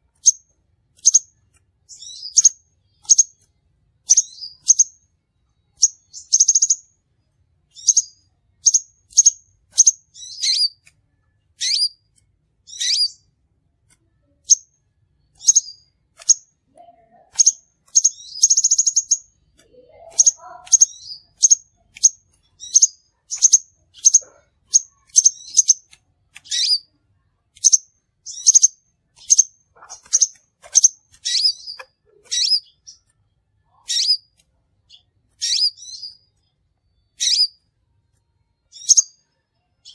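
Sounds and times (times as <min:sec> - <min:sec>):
high bird chirps: 0:00.1 - 0:05.0, 0:05.6 - 0:06.9, 0:07.7 - 0:10.9, 0:11.5 - 0:13.3, 0:14.2 - 0:37.7, 0:38.6 - 0:39.9.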